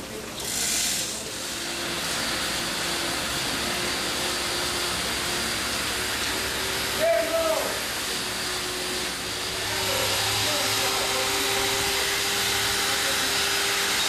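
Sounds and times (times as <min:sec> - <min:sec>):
machinery hissing: 0:00.4 - 0:14.0.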